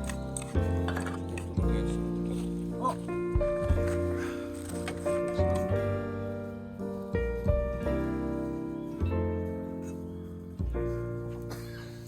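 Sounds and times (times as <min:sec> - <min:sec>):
gentle piano instrumental: 0:00.0 - 0:12.0.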